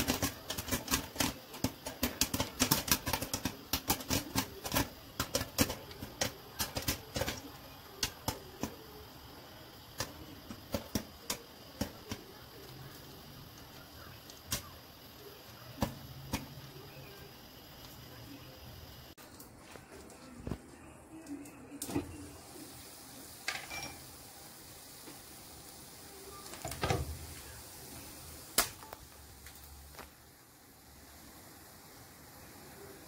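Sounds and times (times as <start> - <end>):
popcorn popping in covered pan: 0.0 - 33.0.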